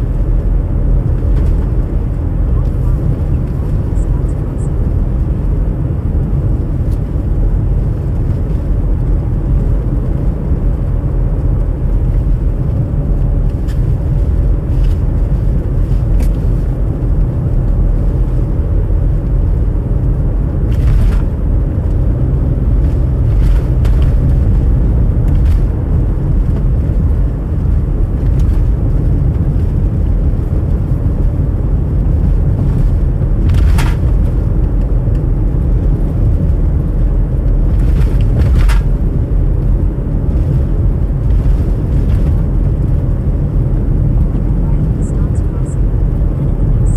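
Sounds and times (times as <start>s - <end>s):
car driving rumble: 0.0s - 46.9s.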